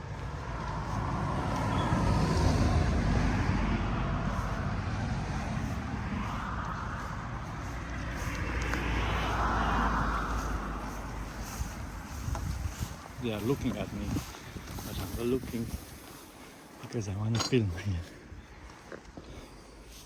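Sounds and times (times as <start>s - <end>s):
road vehicles passing: 0.0s - 20.0s.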